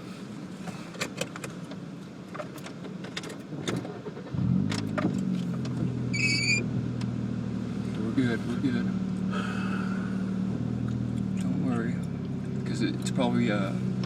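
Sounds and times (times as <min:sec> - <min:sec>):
car engine starting and idling: 0:00.7 - 0:14.0.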